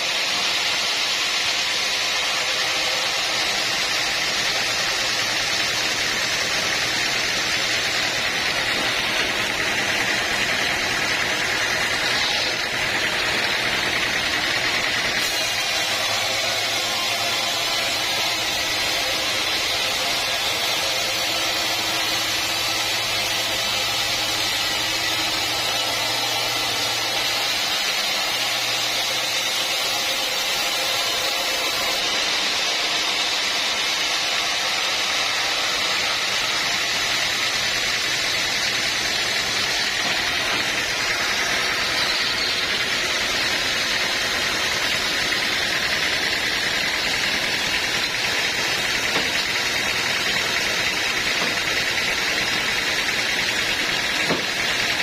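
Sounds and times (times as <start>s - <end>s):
sawmill machinery hissing: 0.0s - 55.0s.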